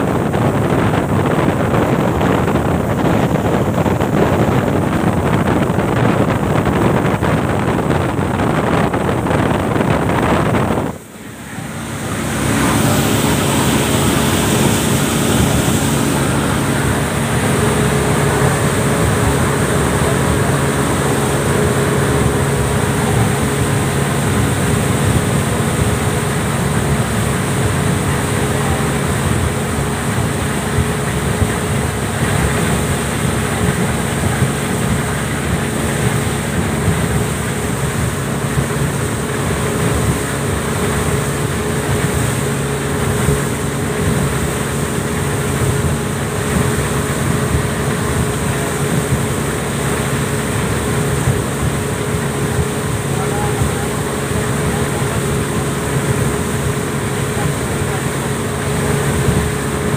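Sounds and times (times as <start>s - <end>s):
boat engines droning: 0.0s - 59.9s
wind and water spray rushing: 0.0s - 59.9s.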